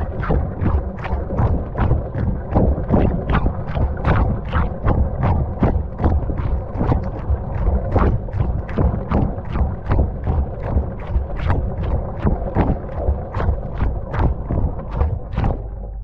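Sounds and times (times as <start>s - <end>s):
wet load splashing knocks: 0.0s - 15.7s
washing machine low rumble: 0.0s - 16.0s
water sloshing in washing machine: 0.0s - 16.0s.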